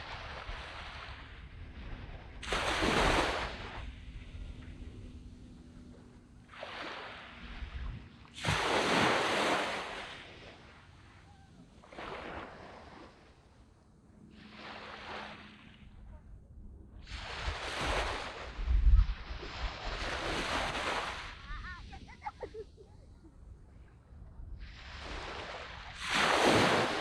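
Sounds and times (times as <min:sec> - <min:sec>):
waves washing up a beach: 0:00.0 - 0:05.0, 0:05.8 - 0:16.2, 0:17.0 - 0:23.4, 0:24.0 - 0:27.0.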